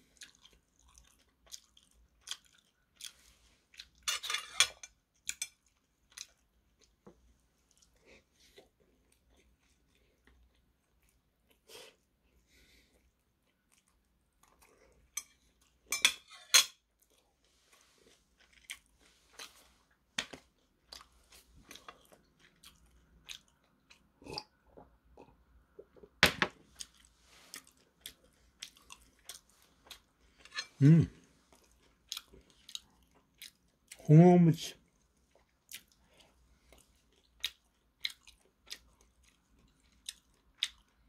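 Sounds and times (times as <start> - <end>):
chewing with wet mouth sounds: 0.0 - 15.9, 16.8 - 25.8, 26.6 - 34.1, 34.8 - 41.0.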